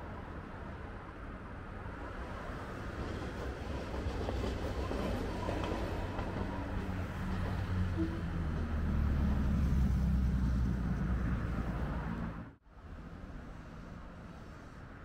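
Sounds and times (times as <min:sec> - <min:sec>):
streetcar rolling and rumbling: 0:00.0 - 0:15.0.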